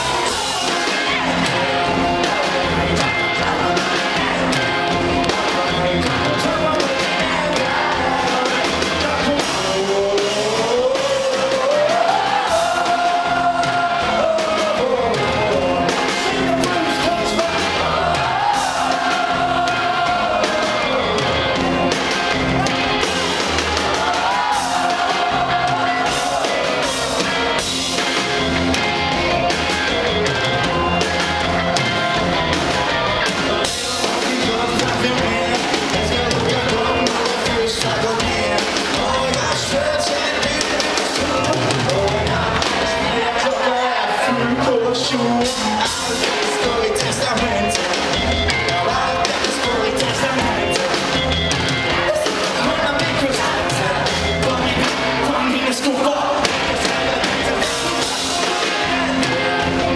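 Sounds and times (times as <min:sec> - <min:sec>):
live rock band: 0:00.0 - 0:59.9
man singing lead: 0:00.0 - 0:59.9.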